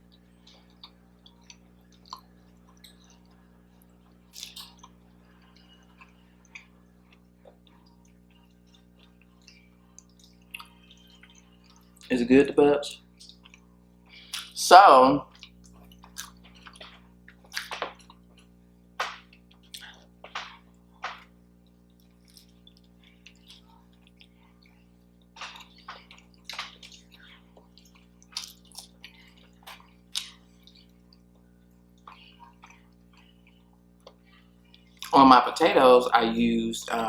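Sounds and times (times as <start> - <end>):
person chewing food: 0.0 - 12.1, 13.0 - 14.6, 15.3 - 35.1
faint steady hum: 0.0 - 37.0.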